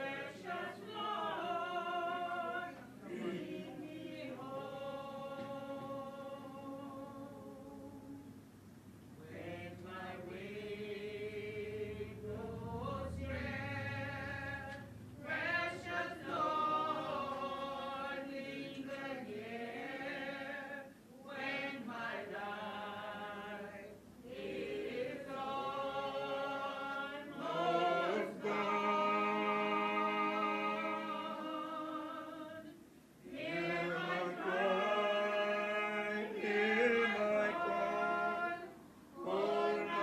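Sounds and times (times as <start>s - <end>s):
choir singing held chords: 0.0s - 8.5s, 9.2s - 40.0s.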